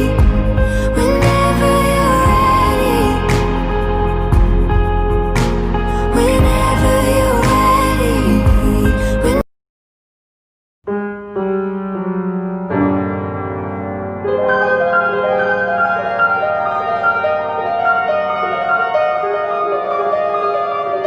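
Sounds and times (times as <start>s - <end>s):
piano music: 0.0s - 9.4s, 10.9s - 21.0s.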